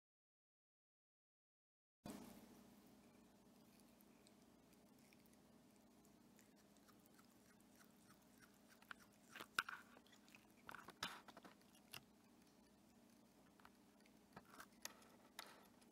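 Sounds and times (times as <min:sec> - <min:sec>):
cat biting and chewing plastic: 0:02.1 - 0:15.9.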